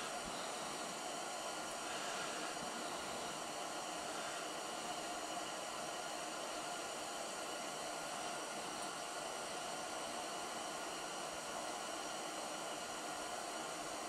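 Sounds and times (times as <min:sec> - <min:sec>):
gas heater hissing: 0:00.0 - 0:14.0.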